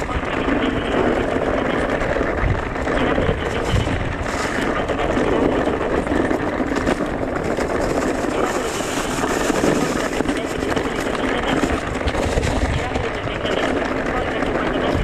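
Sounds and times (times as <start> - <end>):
bike rattling: 0.0 - 15.0
tyres rumbling on trail: 0.0 - 15.0
wind buffeting microphone: 0.0 - 15.0.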